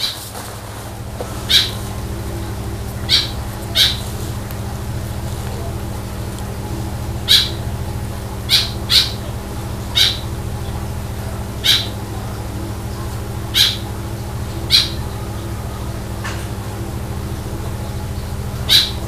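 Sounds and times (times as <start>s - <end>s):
squirrel chirping: 0.0s - 19.0s
steady low hum: 0.0s - 19.0s.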